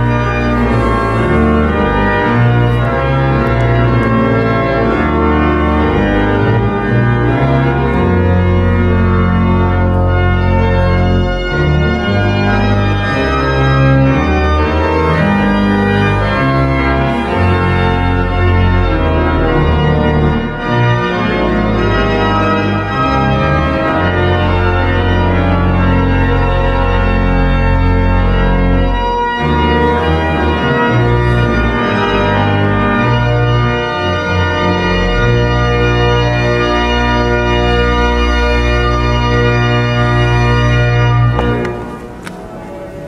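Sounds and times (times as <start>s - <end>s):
pipe organ chords: 0.0s - 43.0s.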